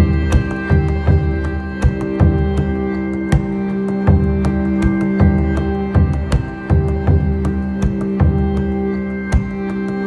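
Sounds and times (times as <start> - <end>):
synth music with steady beat: 0.0 - 10.0.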